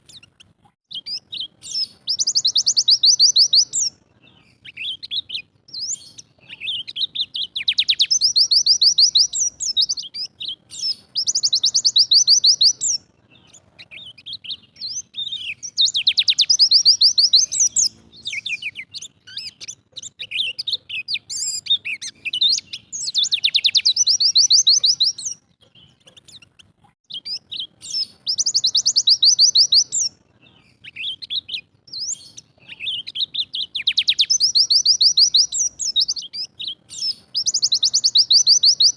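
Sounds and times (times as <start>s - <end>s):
bird chirping notes: 0.0s - 38.9s
bird singing fast trills: 0.0s - 38.9s.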